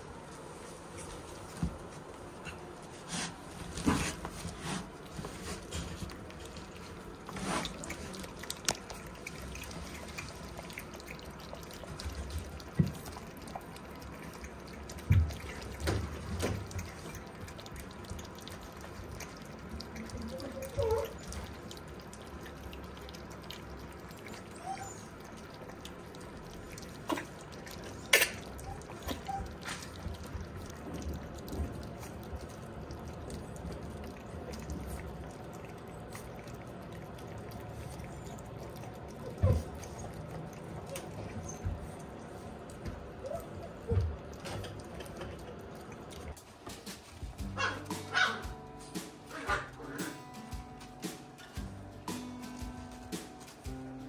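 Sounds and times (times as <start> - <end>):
puppies lapping and slurping: 0.0 - 54.0.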